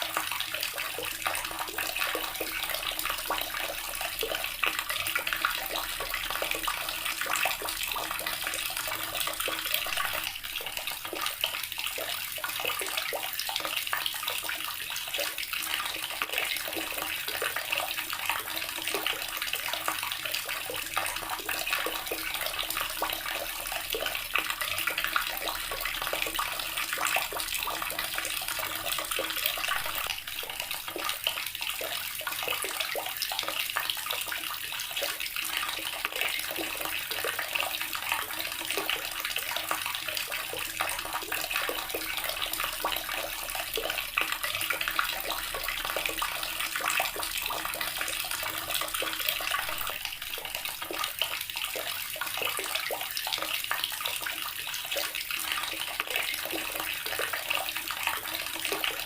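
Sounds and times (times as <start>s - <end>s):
tap water running and splashing: 0.0s - 59.0s.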